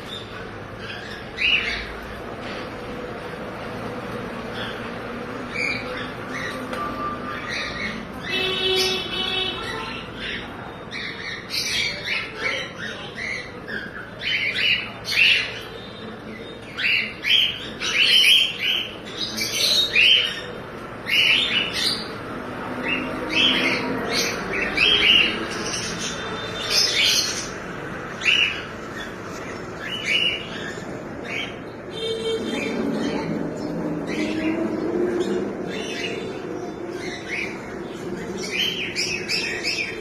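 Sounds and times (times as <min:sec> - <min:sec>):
birds squawking and chirping: 0:00.0 - 0:40.0.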